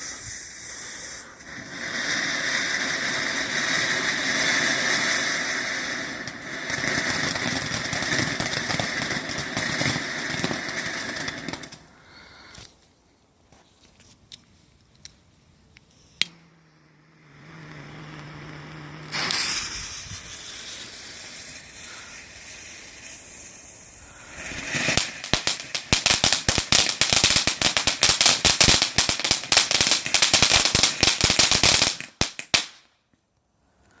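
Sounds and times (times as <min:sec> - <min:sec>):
firework crackling: 0:00.0 - 0:12.6, 0:15.9 - 0:33.0
firework fountain hissing: 0:00.0 - 0:12.6, 0:15.9 - 0:32.8.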